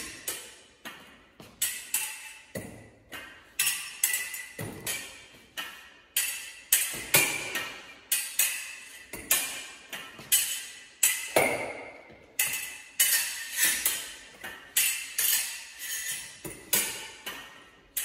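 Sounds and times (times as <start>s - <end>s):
fencing blades clashing: 0.0s - 18.0s.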